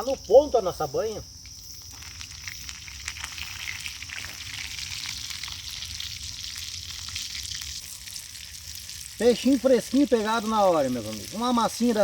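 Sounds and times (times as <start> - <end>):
fish frying in hot fat: 1.6 - 12.0.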